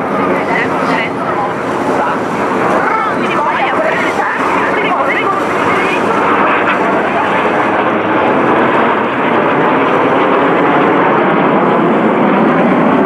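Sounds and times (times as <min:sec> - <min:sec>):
jet aircraft rushing noise: 0:00.0 - 0:13.0.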